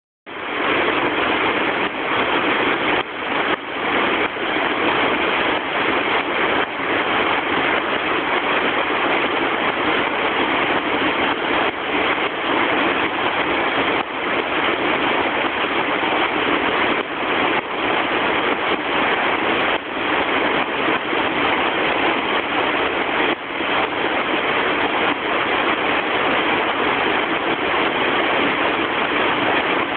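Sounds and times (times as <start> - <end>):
stream rapids rushing: 0.3 - 29.9
waterfall roaring: 0.3 - 29.9.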